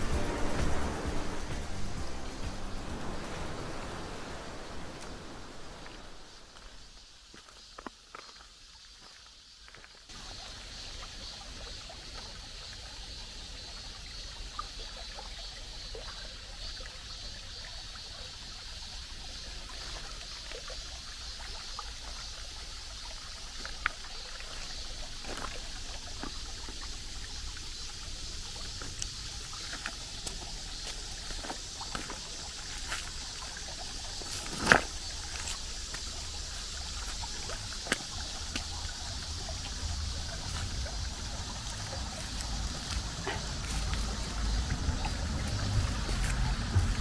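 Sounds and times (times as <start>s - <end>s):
creek water running over rocks: 0.0s - 47.0s.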